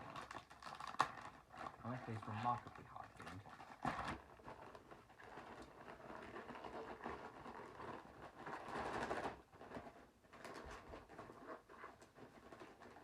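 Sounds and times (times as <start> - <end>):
packaging rustling and tearing: 0.0 - 13.0.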